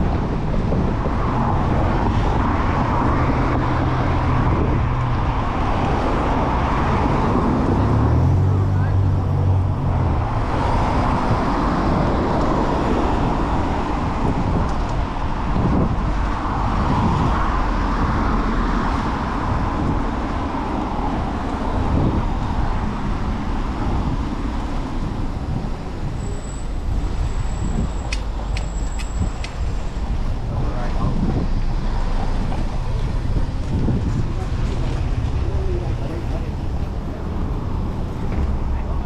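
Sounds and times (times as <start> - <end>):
engine hum: 0.0 - 39.0
passing cars and tyres: 0.0 - 39.0.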